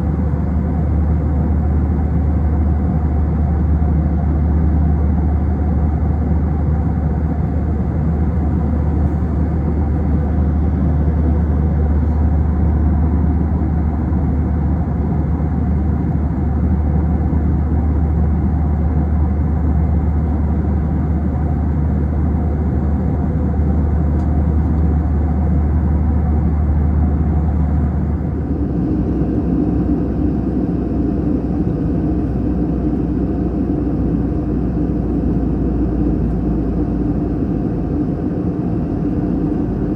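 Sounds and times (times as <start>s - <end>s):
jet engine cabin drone: 0.0s - 39.9s
mid-pitched hum: 0.0s - 39.9s.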